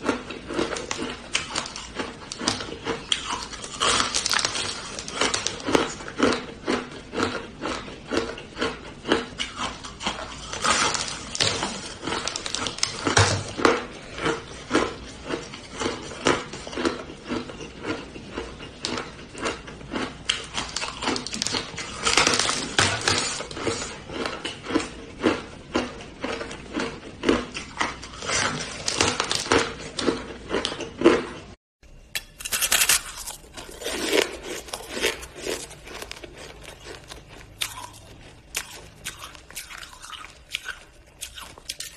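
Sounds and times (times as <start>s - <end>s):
crunching shaved ice: 0.0s - 25.4s, 32.2s - 41.9s
teeth crunching ice: 0.0s - 31.5s, 32.2s - 41.9s.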